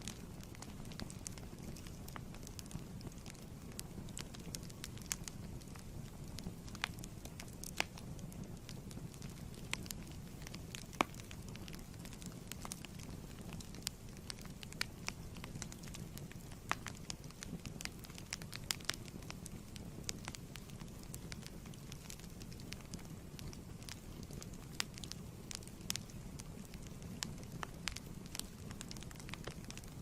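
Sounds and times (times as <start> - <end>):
fire flames rumbling: 0.0 - 30.0
wood fire crackling and popping: 0.0 - 30.0.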